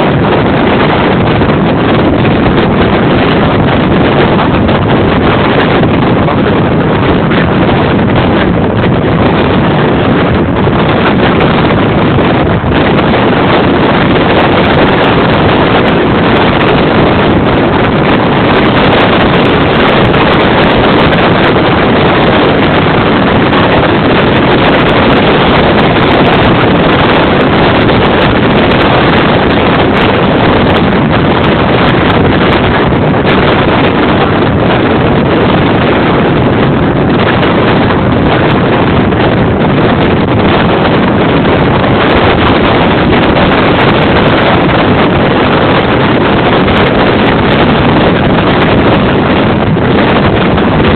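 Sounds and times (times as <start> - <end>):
strong wind on microphone: 0.0 - 50.9.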